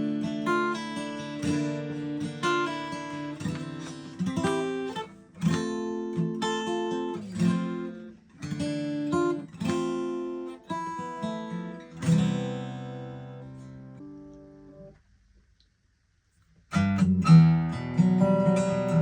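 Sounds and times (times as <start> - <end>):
acoustic guitar chords: 0.0 - 15.0, 16.7 - 19.0.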